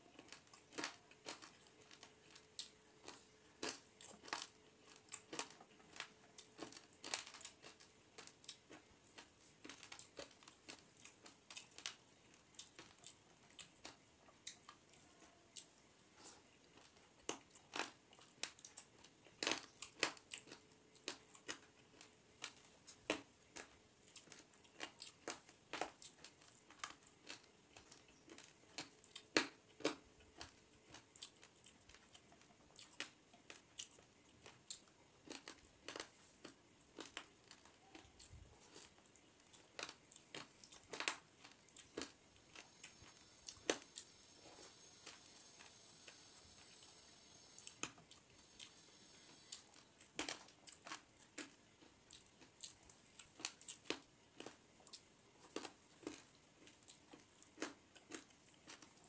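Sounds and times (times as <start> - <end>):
fingers squishing rice: 0.0 - 59.0
wet chewing and lip smacks: 0.1 - 46.9, 47.5 - 59.0.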